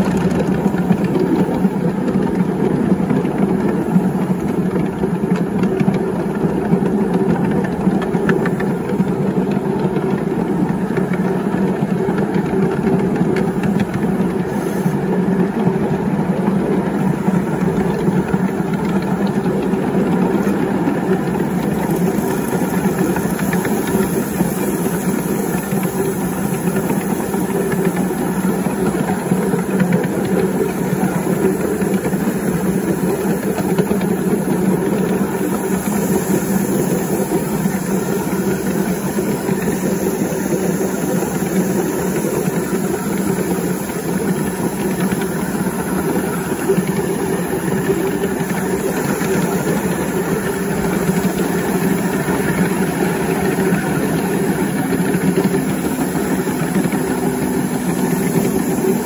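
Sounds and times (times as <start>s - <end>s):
model steam locomotive running: 0.0s - 59.0s.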